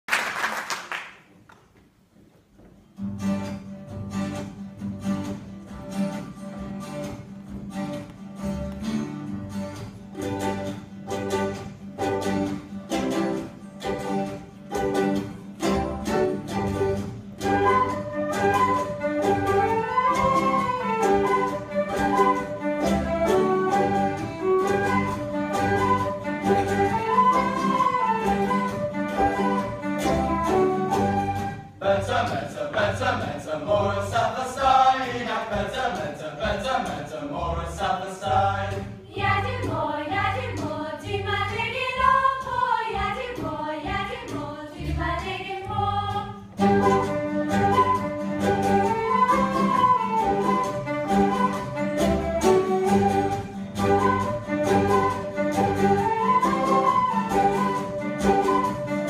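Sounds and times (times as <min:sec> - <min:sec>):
acoustic string ensemble strumming: 0:02.9 - 0:59.0.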